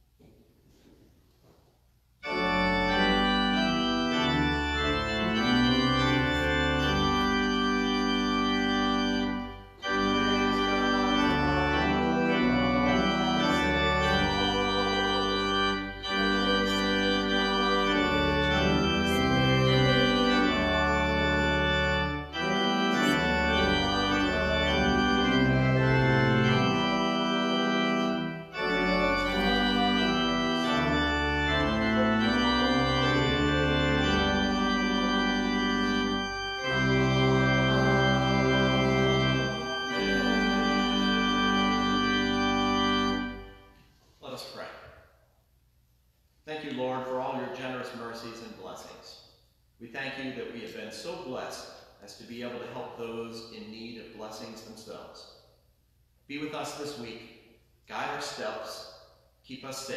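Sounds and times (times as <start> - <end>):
church organ playing a hymn: 2.2 - 44.7, 46.6 - 48.9, 50.0 - 55.2, 56.3 - 57.2, 57.9 - 59.0.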